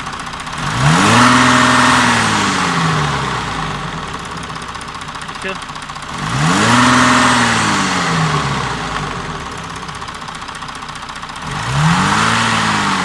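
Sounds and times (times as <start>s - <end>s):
diesel engine idling and revving: 0.0s - 13.0s
engine knocking: 0.0s - 13.0s.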